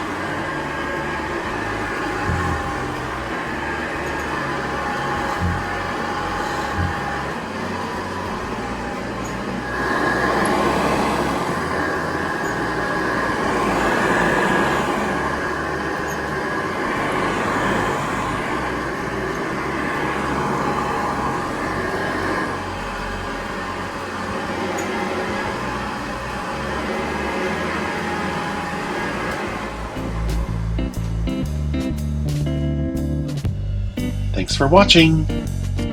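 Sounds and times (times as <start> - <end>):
upright vacuum cleaner running: 0.0 - 31.8.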